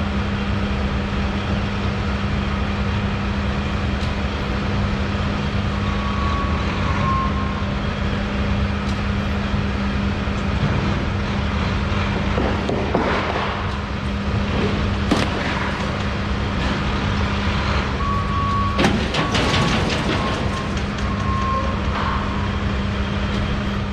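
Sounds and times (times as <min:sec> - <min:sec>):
constant low hum: 0:00.0 - 0:23.9
vehicle road and engine noise: 0:00.0 - 0:23.9.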